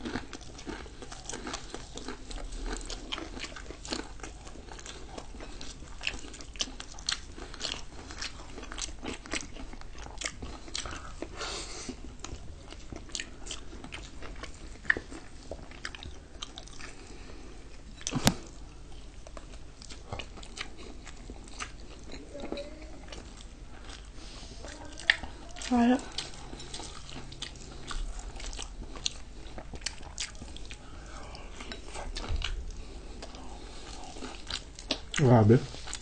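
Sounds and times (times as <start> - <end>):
crunching and chewing fried chicken: 0.0 - 36.0.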